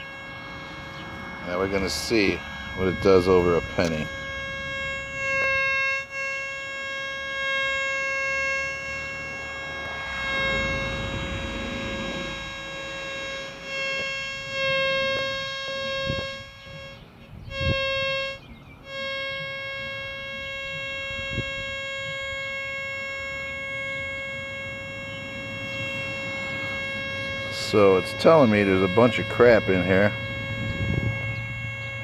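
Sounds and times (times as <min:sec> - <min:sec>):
metal detector buzzy tone: 0:00.0 - 0:32.0.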